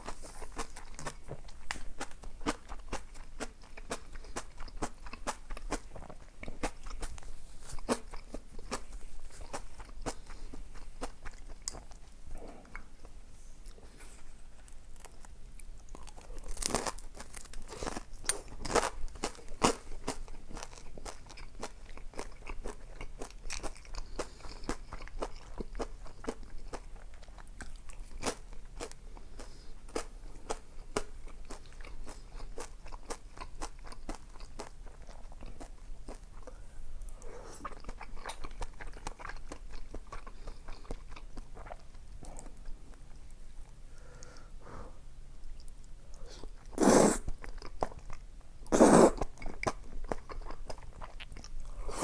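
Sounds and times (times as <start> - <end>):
chewing and crunching: 0.0 - 44.4, 45.4 - 52.0.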